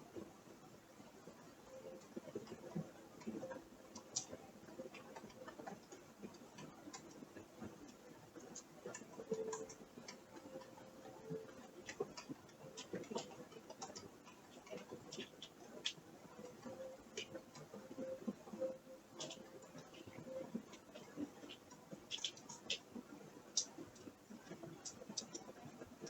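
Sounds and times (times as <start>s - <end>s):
faint hum: 0.0s - 26.0s
building creaks and ticks: 1.4s - 26.0s.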